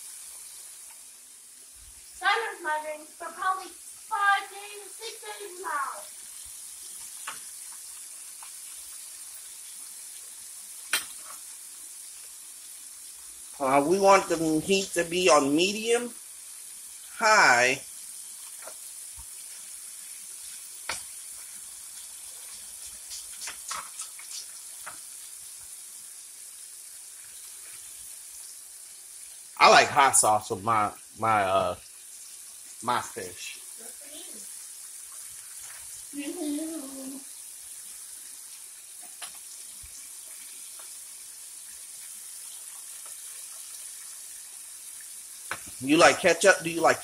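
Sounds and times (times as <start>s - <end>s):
fish sizzling in hot oil: 0.0s - 47.0s.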